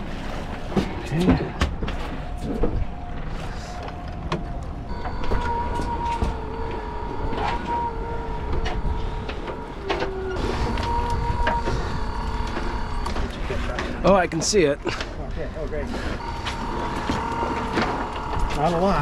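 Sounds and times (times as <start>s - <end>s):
low rumble of boat and water: 0.0s - 19.0s
electric motor whining: 1.9s - 14.6s, 15.9s - 19.0s.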